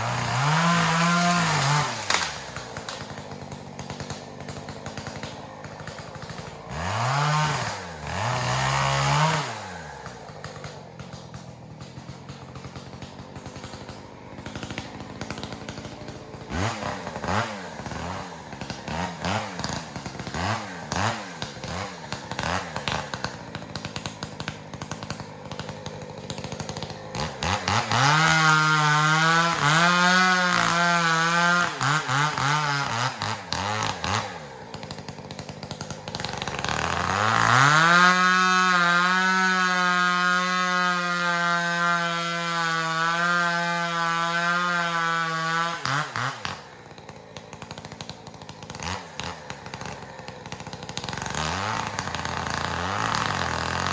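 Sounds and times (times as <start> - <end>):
chainsaw revving and cutting: 0.0 - 53.9.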